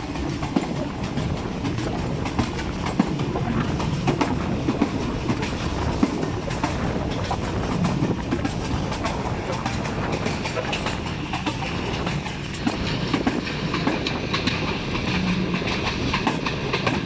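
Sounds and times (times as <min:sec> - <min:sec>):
train wheels clattering over track: 0:00.0 - 0:17.0.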